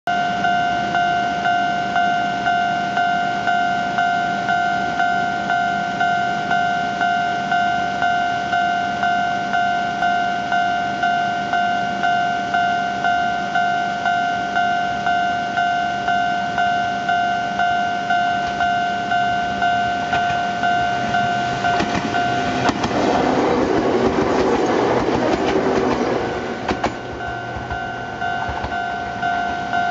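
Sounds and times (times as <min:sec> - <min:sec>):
level-crossing alarm ringing: 0:00.1 - 0:29.9
electric train passing: 0:02.5 - 0:29.9.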